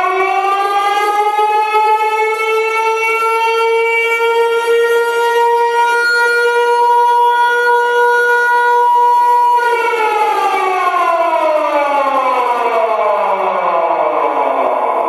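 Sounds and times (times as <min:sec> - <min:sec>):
siren tone winding down: 0:00.0 - 0:15.0.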